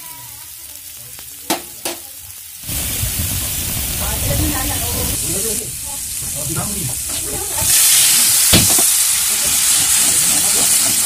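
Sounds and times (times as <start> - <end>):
vegetables frying and stirred: 0.0 - 11.0
water sizzling in hot oil: 0.0 - 11.0.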